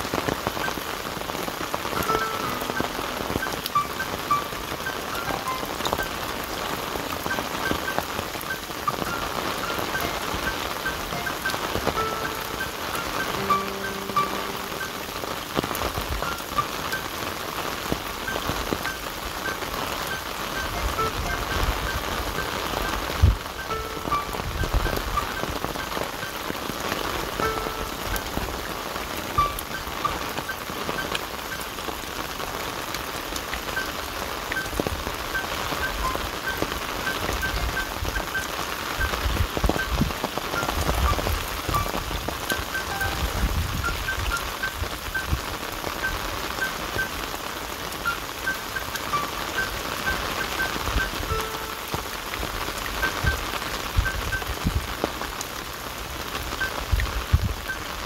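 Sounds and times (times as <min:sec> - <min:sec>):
rain falling: 0:00.0 - 0:58.0
soft music: 0:00.5 - 0:32.2, 0:33.6 - 0:45.4, 0:46.0 - 0:54.5.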